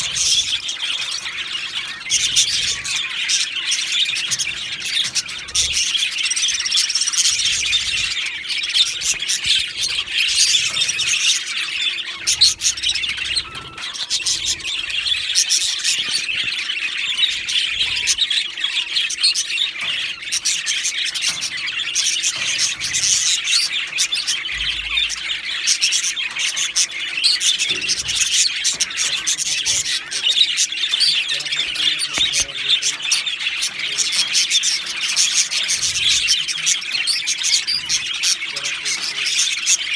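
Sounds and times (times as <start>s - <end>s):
budgies warbling and chirping: 0.0s - 39.9s.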